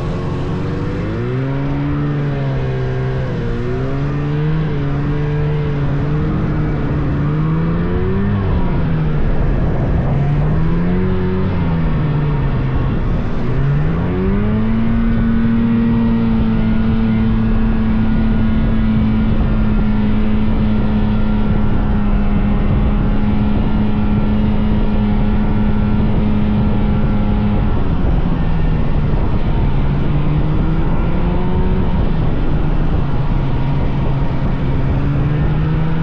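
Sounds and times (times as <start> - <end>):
second engine rising in pitch: 0.0 - 36.0
snowmobile engine running: 0.0 - 36.0.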